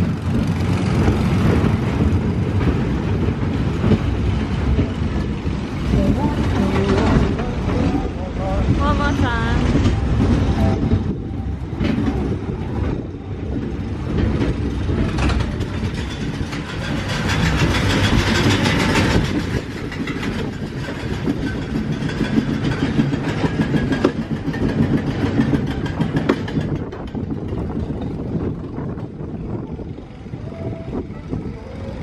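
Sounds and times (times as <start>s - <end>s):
roller coaster wheels rumbling on rails: 0.0s - 32.0s.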